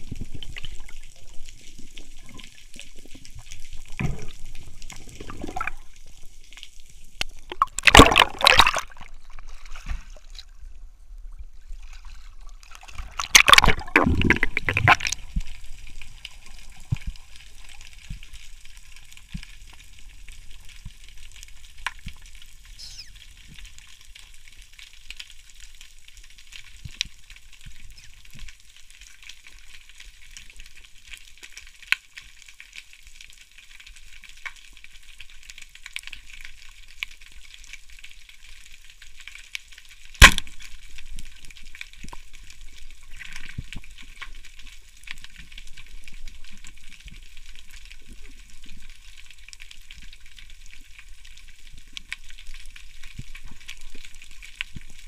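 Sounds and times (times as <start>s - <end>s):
underwater rush of water and bubbles: 0.0s - 30.9s, 31.5s - 55.0s
faint underwater crackle: 0.0s - 55.0s.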